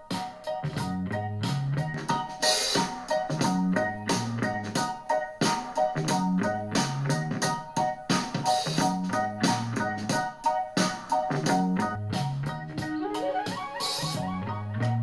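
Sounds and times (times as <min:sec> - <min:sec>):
keyboard chords over bass line: 0:00.0 - 0:15.0.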